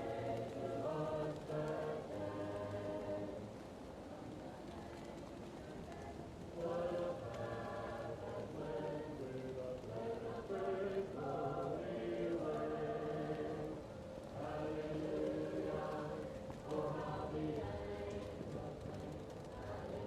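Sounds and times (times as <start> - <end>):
muffled choir singing: 0.0 - 20.0
wood fire crackling: 0.0 - 20.0.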